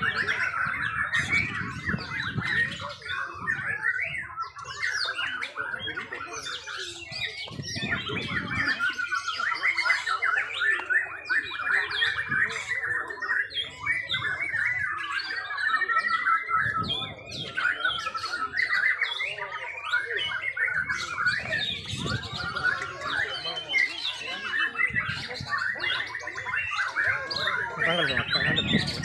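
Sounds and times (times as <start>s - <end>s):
murmur of crowd voices: 0.0s - 29.0s
songbirds singing and trilling: 0.0s - 29.0s.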